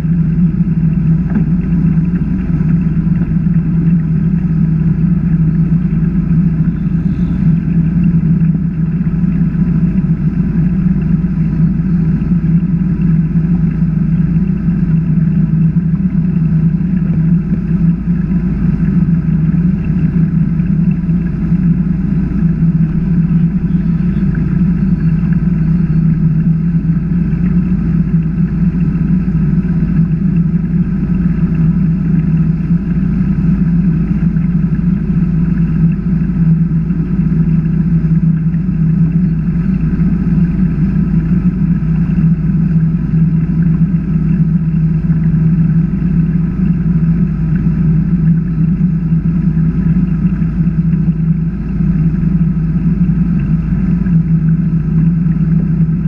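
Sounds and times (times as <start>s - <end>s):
boat engine drone: 0.0s - 56.0s
water rushing at bow: 0.0s - 56.0s.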